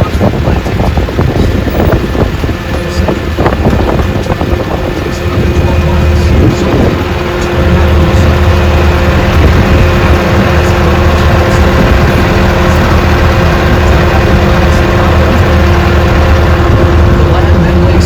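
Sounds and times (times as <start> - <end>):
steady tones: 0.0 - 18.0
train engine drone: 0.0 - 18.0.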